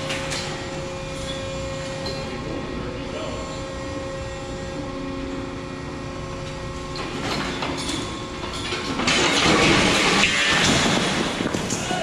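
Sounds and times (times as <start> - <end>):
hydraulic machine running: 0.0 - 12.0.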